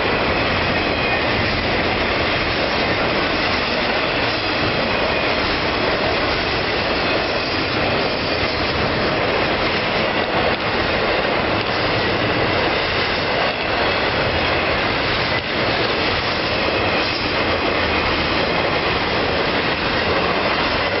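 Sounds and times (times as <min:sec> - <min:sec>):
steel wheels rushing on rail: 0:00.0 - 0:21.0.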